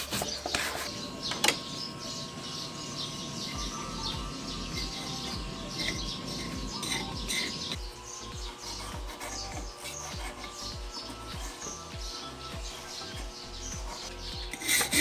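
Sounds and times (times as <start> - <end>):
background music with low beat: 0.0 - 15.0
small birds chirping: 0.0 - 15.0.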